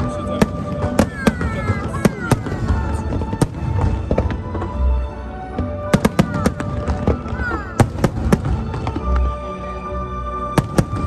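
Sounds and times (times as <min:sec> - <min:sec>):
fireworks bursting with bangs: 0:00.0 - 0:09.5, 0:10.5 - 0:11.0
music: 0:00.0 - 0:11.0.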